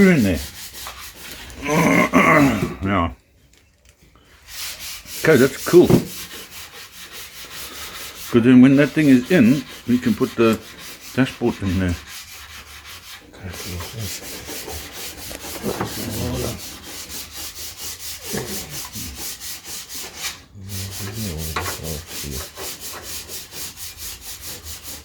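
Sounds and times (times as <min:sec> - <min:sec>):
sanding strokes: 0:00.0 - 0:01.7, 0:04.4 - 0:25.0.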